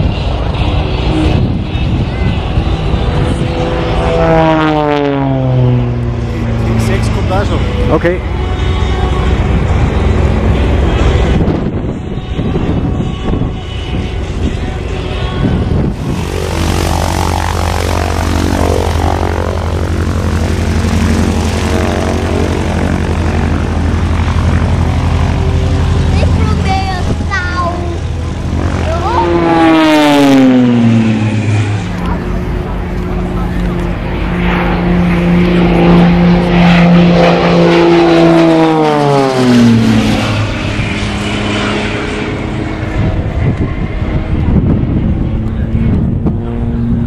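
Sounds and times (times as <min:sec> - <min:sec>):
propeller aircraft engine running: 0:00.0 - 0:47.0.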